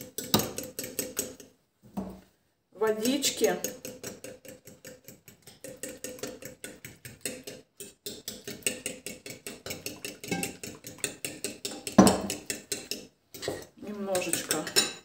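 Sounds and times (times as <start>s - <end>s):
fork whisking egg in bowl: 0.0s - 1.6s, 2.8s - 15.0s.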